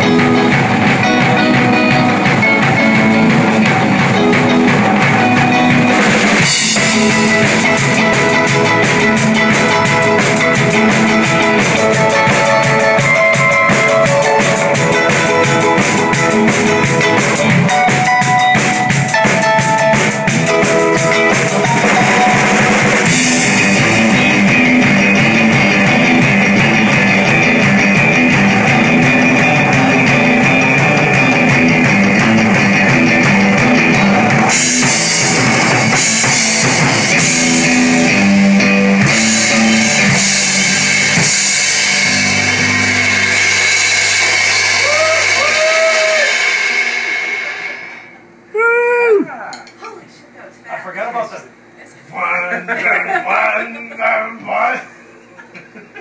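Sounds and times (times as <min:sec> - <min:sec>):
electric bass: 0:00.0 - 0:47.8
drum kit with cymbals: 0:00.0 - 0:49.3
electric guitar: 0:00.0 - 0:49.3.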